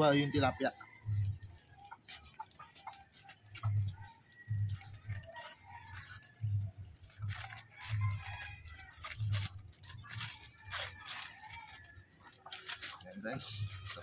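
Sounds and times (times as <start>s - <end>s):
knife tearing aluminium foil: 2.0s - 14.0s.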